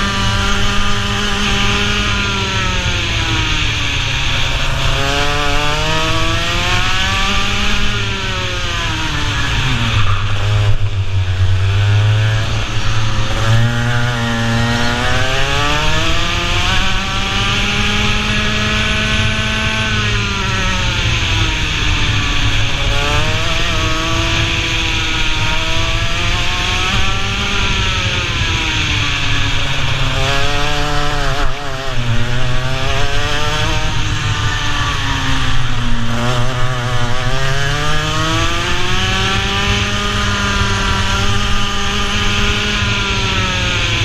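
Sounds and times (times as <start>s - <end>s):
kart engine revving: 0.0s - 44.0s.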